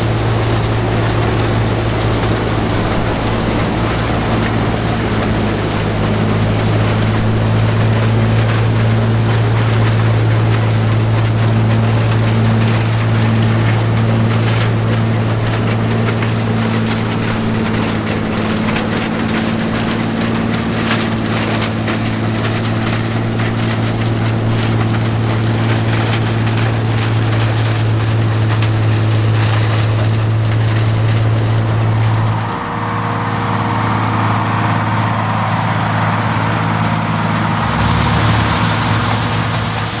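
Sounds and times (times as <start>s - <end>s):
combine engine hum: 0.0s - 40.0s
threshing machinery whirring: 0.0s - 40.0s.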